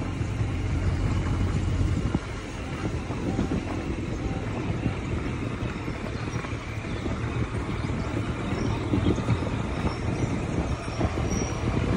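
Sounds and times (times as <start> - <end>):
motorcycle engine at low revs: 0.0 - 11.9.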